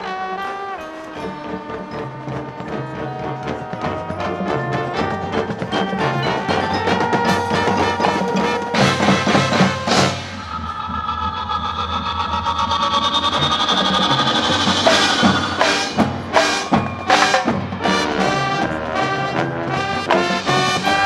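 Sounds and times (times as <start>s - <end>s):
marching band playing: 0.0s - 12.0s, 13.4s - 21.0s.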